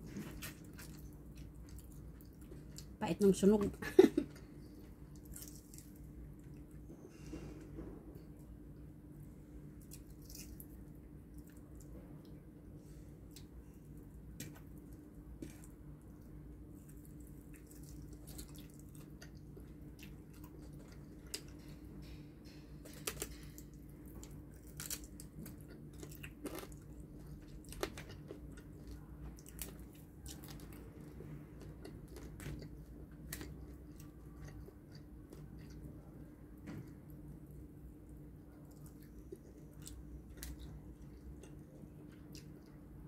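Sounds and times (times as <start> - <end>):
crunchy chewing: 0.0 - 3.0, 4.3 - 7.0, 9.8 - 12.3, 13.2 - 36.2, 38.0 - 42.9
steady low hum: 0.0 - 43.0.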